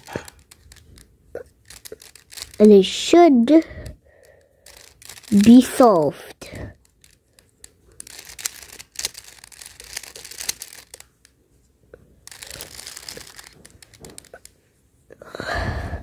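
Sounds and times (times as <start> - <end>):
puzzle cube layers clicking: 0.0 - 11.3, 12.2 - 14.6.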